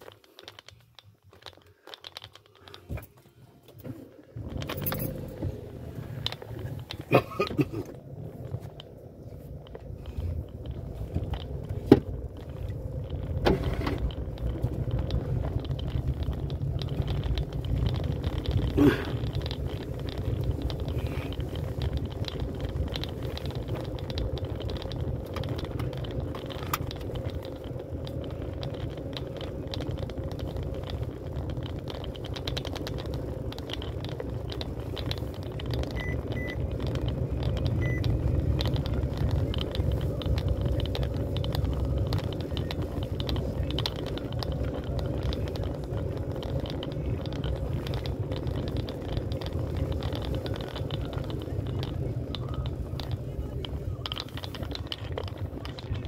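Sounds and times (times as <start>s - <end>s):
tyres rattling on paving stones: 0.0s - 3.2s, 4.4s - 56.0s
car engine and tyre rumble: 0.0s - 56.0s.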